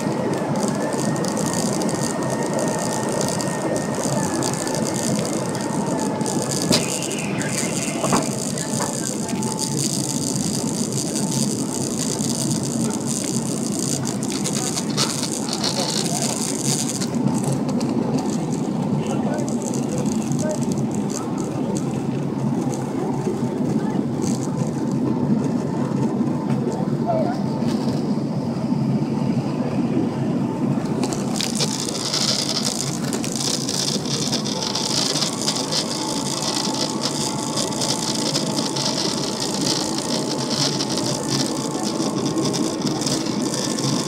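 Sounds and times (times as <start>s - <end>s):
jet engine and airflow noise: 0.0s - 44.0s.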